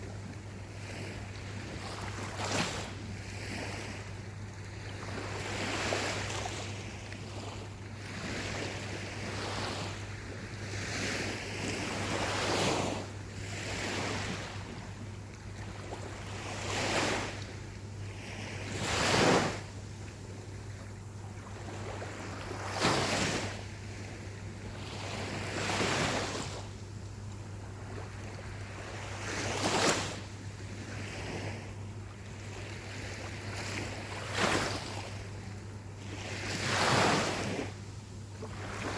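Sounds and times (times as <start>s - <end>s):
small ocean waves breaking: 0.0s - 38.9s.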